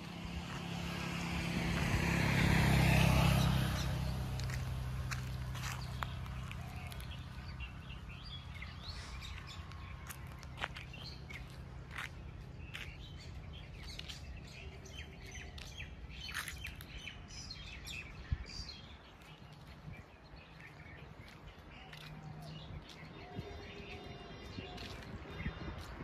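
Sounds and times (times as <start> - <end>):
small birds chirping: 2.7 - 26.0.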